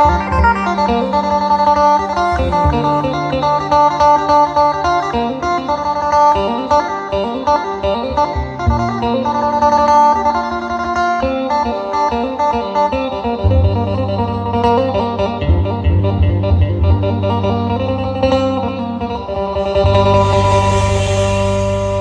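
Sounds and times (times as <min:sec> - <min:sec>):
plucked-string music over bass beat: 0:00.0 - 0:22.0.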